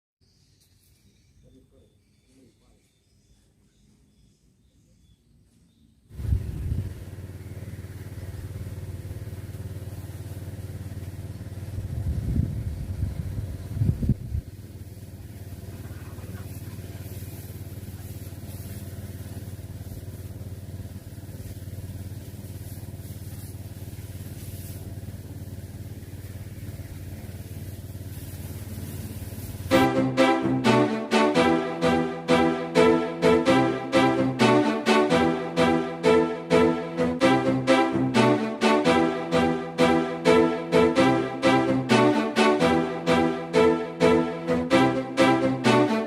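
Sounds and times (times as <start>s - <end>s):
excavator diesel engine running: 6.2s - 46.0s.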